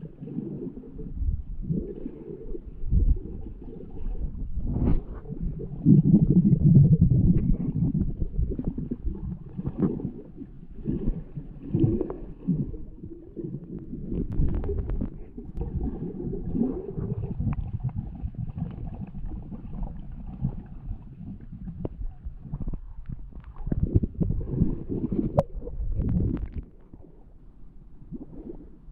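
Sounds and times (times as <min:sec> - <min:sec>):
underwater swishing of water: 0:00.0 - 0:28.9.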